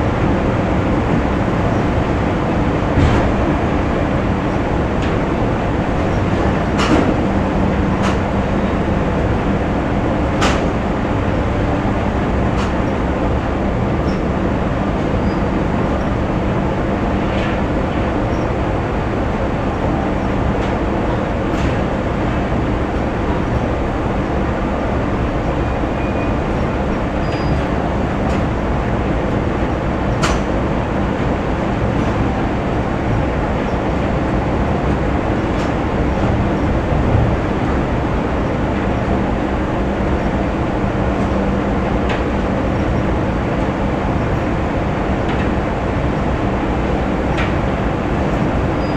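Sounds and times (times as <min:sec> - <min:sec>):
factory machinery rumble: 0:00.0 - 0:48.9.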